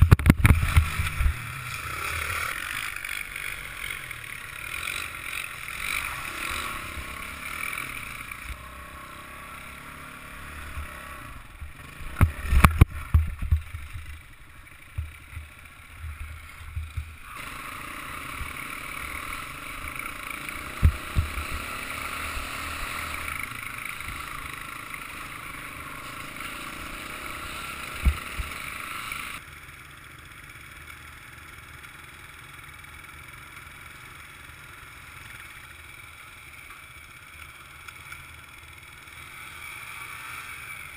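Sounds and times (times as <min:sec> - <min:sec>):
motorbike engine running: 0:00.0 - 0:40.9.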